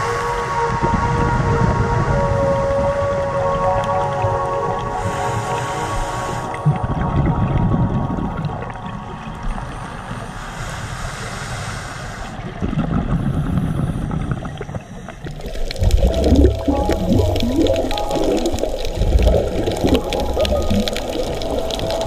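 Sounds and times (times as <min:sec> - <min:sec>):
low rumble: 0:00.0 - 0:10.6, 0:12.5 - 0:22.0
underwater bubbling: 0:00.0 - 0:22.0.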